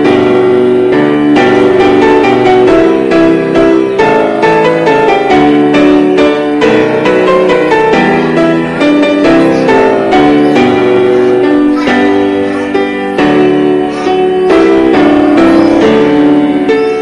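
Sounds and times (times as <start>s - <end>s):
piano background music: 0.0s - 17.0s.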